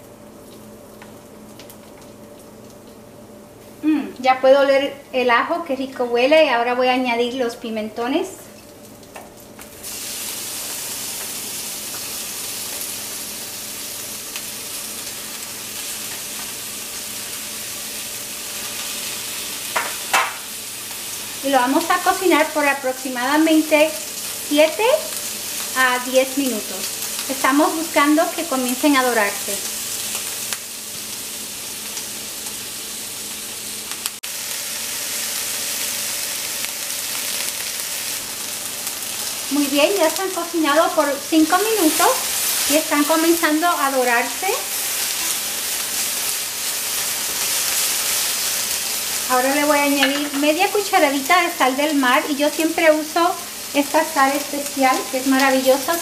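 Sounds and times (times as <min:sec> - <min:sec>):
peppers sizzling in a frying pan: 0:00.0 - 0:56.0.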